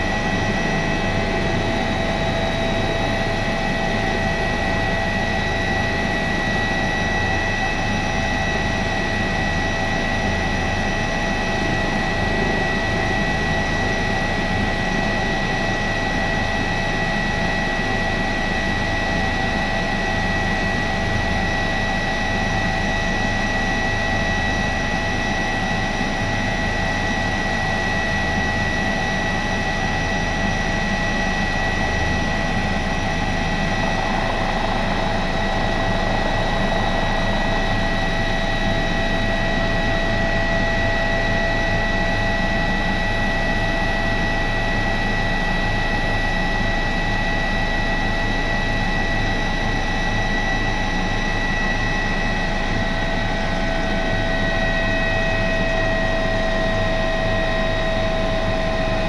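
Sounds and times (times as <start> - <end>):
helicopter turbine whine: 0.0 - 59.0
low pulsing rotor rumble: 0.0 - 59.0.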